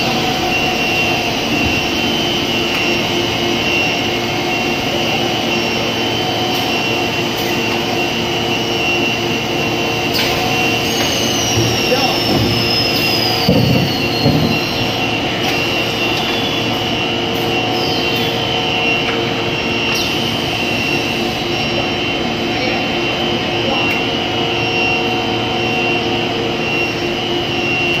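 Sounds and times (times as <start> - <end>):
machine hum and whine: 0.0 - 28.0.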